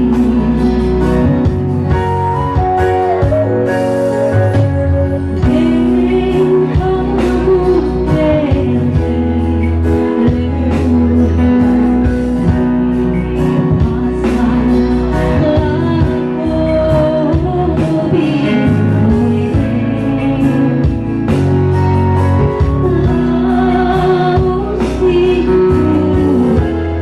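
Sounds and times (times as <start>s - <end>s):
instrumental accompaniment: 0.0s - 27.0s
woman singing into microphone: 0.0s - 27.0s.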